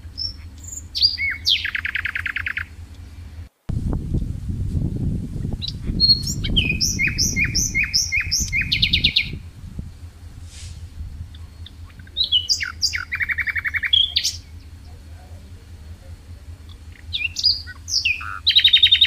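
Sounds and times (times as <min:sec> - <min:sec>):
low rumbling noise: 0:00.0 - 0:19.0
songbird singing: 0:00.0 - 0:19.0.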